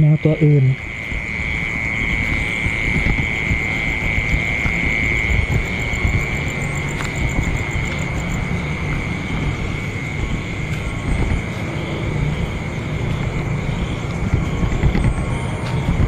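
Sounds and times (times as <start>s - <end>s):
constant low rumble: 0.0s - 16.0s
night insects droning: 0.0s - 16.0s.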